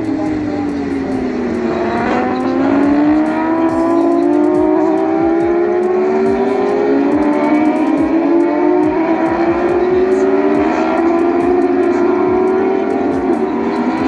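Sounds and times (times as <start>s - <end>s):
motorcycle engines racing past: 0.0s - 14.0s.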